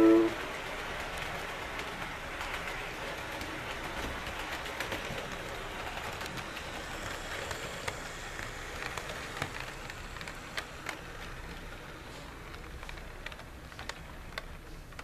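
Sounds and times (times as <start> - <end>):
model train running noise: 0.0 - 15.0
wheels clicking over track: 0.0 - 15.0.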